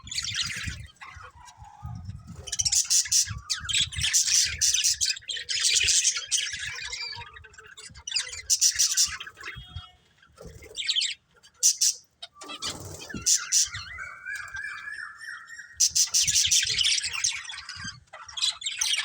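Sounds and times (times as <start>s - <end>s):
budgerigars chirping: 2.4s - 19.0s.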